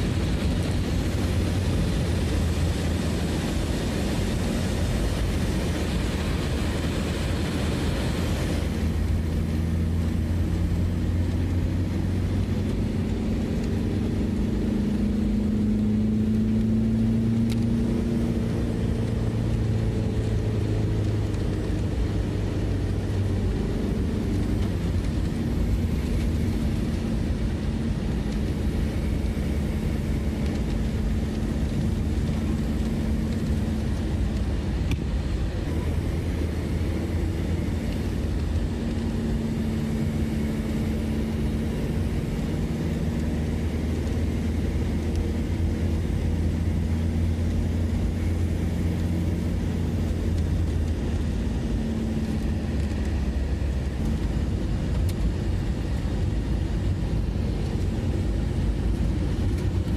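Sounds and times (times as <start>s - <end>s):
engine droning hum: 0.0s - 59.9s.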